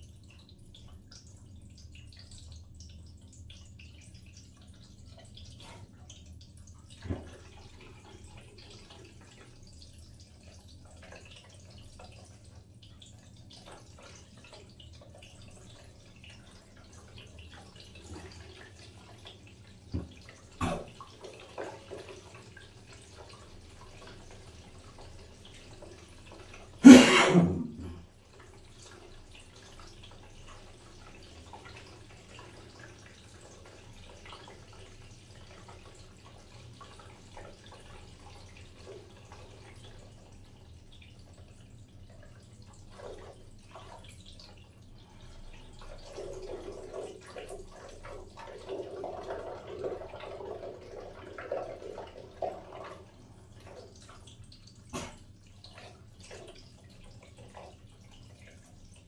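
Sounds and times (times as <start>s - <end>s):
water dripping: 0.0s - 59.0s.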